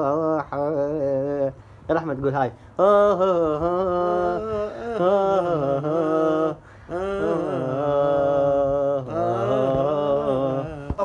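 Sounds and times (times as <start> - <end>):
man singing unaccompanied: 0.0 - 1.6, 2.8 - 11.0.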